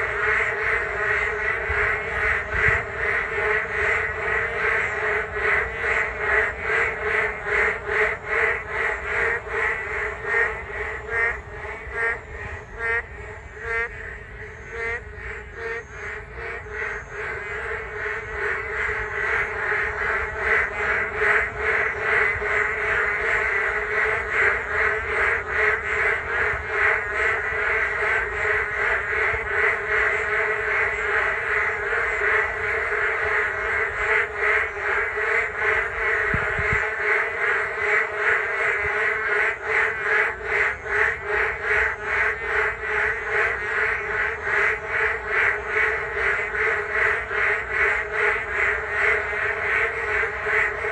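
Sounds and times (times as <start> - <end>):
frogs croaking in chorus: 0.0 - 50.9.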